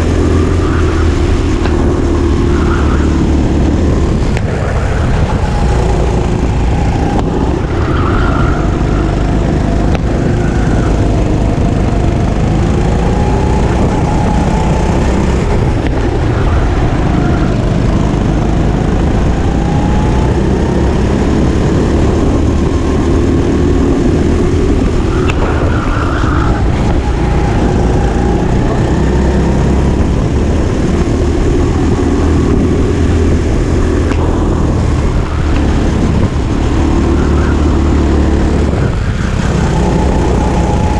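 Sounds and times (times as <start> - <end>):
go-kart engine revving: 0.0 - 40.9
other karts running: 0.0 - 40.9.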